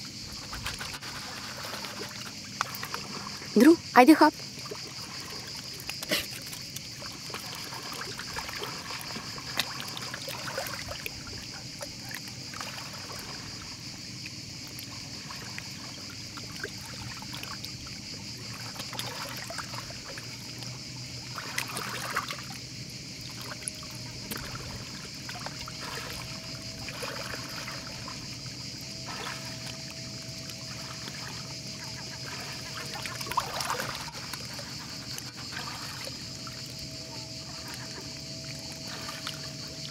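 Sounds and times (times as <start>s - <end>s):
sea water lapping on pebbles: 0.2s - 39.9s
water splashes: 0.2s - 39.9s.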